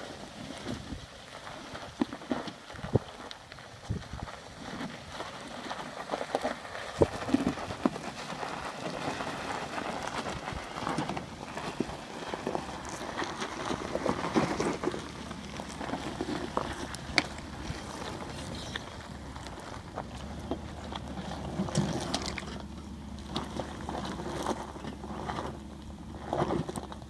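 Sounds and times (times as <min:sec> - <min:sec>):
tyres crunching gravel: 0:00.0 - 0:27.0
scraping and knocking under van: 0:00.1 - 0:27.0.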